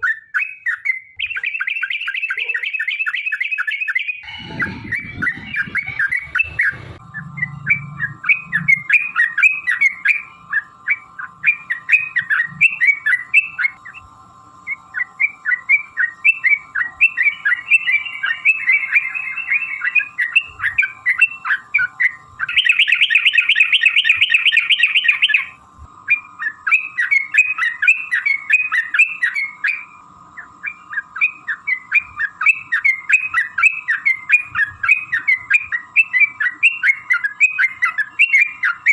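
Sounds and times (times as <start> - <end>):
bird rapid trill: 0.0 - 38.9
bulbuls chirping: 0.0 - 38.9.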